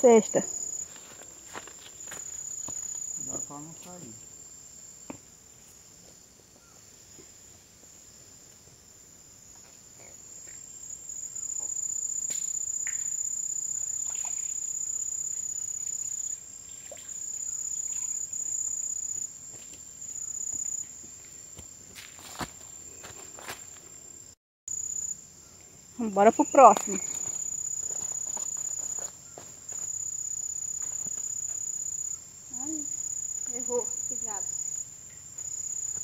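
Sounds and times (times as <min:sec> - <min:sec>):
crickets trilling: 0:00.0 - 0:36.0.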